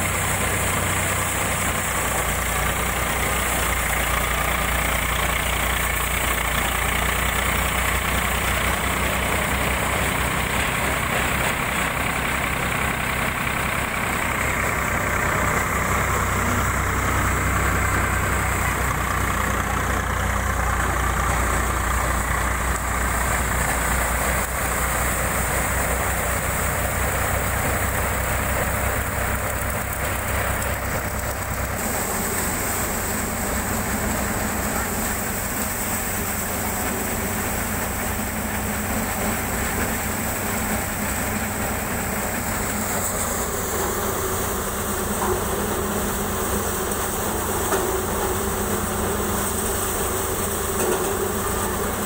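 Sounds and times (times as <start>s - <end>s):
diesel tractor engine running: 0.0s - 52.0s
threshing drum hiss: 0.0s - 52.0s.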